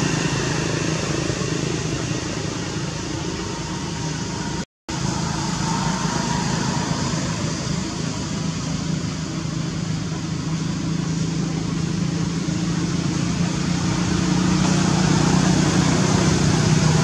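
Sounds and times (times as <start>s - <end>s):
low mechanical drone: 0.0s - 17.0s.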